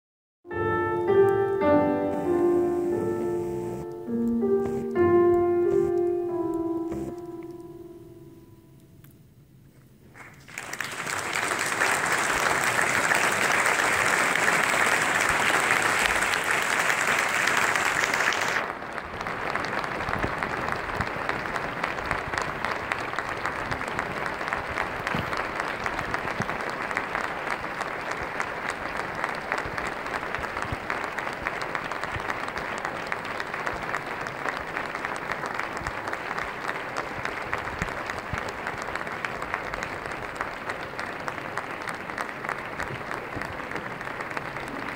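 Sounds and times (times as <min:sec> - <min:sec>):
audience applauding: 0:02.1 - 0:05.0, 0:10.2 - 0:44.9.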